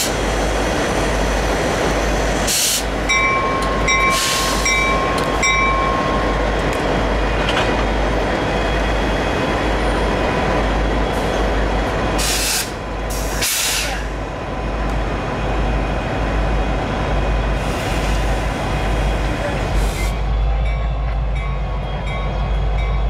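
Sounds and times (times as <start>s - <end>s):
diesel locomotive rumbling past: 0.0s - 23.0s.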